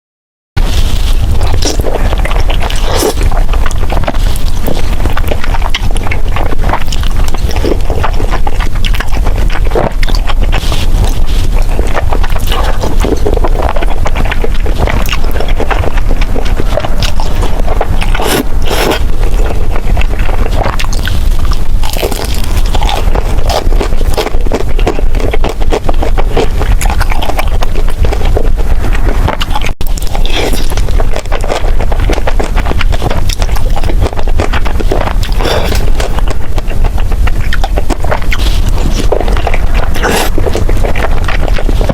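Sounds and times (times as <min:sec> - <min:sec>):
low rumble: 0:00.6 - 0:41.9
wet chewing and smacking: 0:00.6 - 0:41.9.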